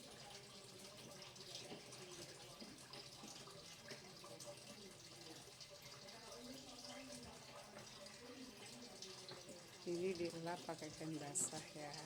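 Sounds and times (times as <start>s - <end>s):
water running from tap: 0.0s - 12.0s.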